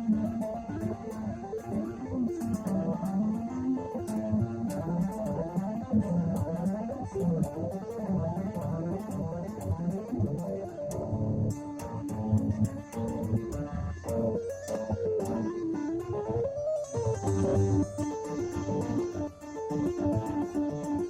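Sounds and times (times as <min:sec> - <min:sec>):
sharp percussive ticks: 0:00.0 - 0:21.0.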